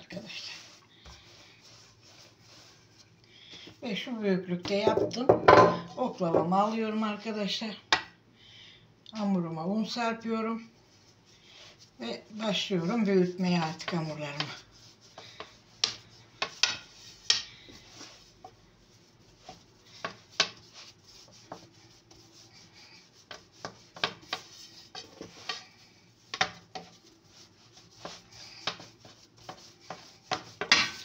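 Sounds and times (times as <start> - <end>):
rolling pin rolling dough: 0.0 - 6.8, 11.0 - 31.0.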